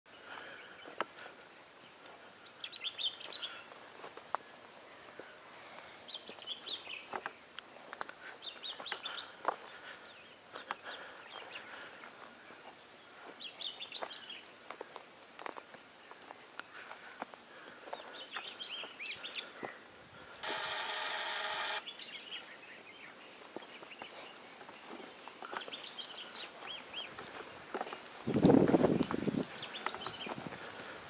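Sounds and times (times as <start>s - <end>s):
footsteps on dry scrub path: 0.3s - 19.9s, 22.4s - 31.0s.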